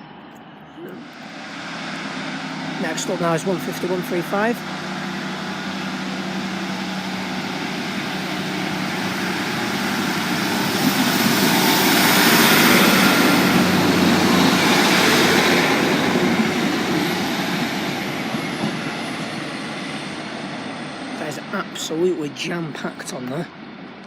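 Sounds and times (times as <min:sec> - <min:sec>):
diesel train passing: 0:00.0 - 0:24.0.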